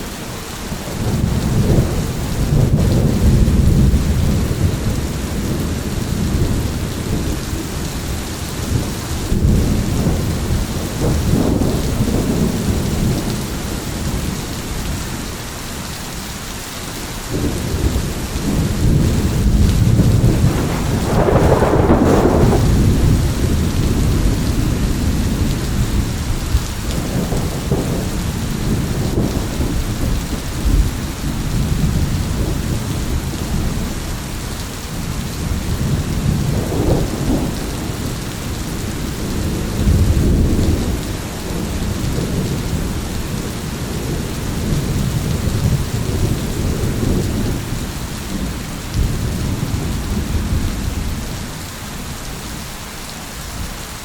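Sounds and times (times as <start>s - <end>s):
heavy rain: 0.0s - 54.0s
rolling thunder: 0.8s - 15.0s, 17.3s - 51.4s.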